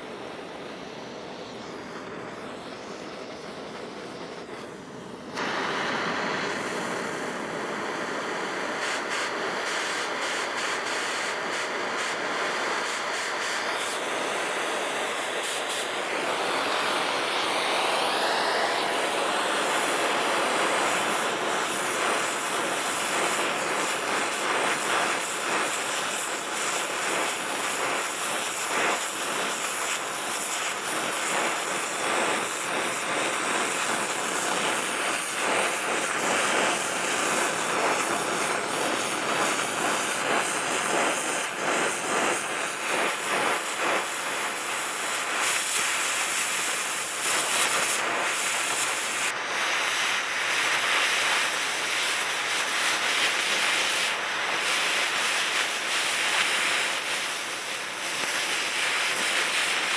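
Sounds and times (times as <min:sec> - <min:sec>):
cutting torch hissing: 0:00.0 - 0:59.9.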